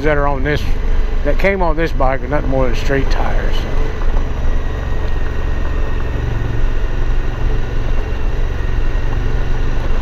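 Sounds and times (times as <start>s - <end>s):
motorcycle engine rumbling: 0.0s - 10.0s
road and wind noise: 0.0s - 10.0s.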